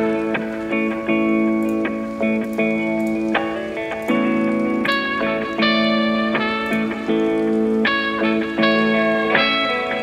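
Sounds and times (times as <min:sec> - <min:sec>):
plucked guitar-like chords: 0:00.0 - 0:10.0.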